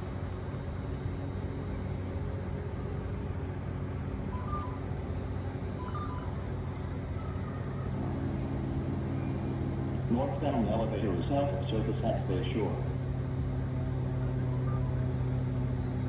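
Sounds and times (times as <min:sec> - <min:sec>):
electric train humming: 0:00.0 - 0:16.0
faint high whine: 0:00.0 - 0:16.0.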